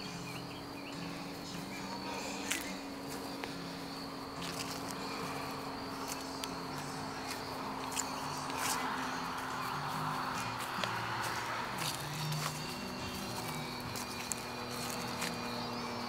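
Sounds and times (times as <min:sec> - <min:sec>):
footsteps through grass and leaves: 0:00.0 - 0:16.0
insects chirping: 0:00.0 - 0:16.0.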